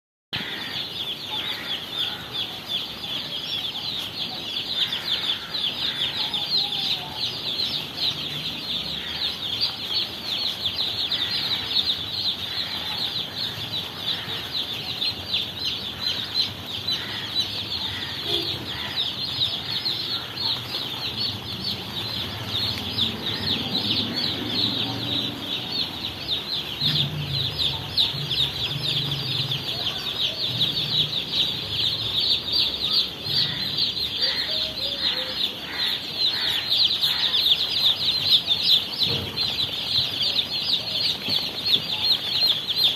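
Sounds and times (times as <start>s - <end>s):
chicks peeping: 0.4s - 42.9s.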